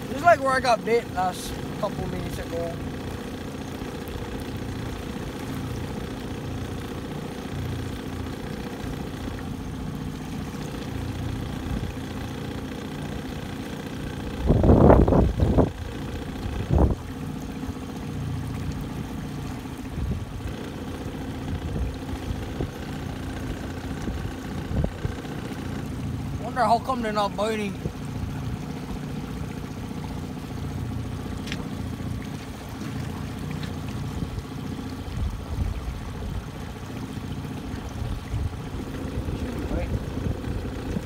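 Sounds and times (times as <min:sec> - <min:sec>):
small outboard motor running: 0:00.0 - 0:41.0.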